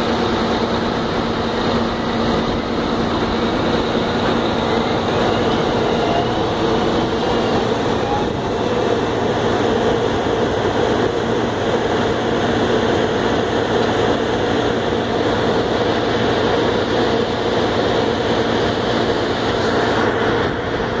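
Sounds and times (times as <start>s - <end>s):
heavy diesel machinery rumbling: 0.0s - 21.0s.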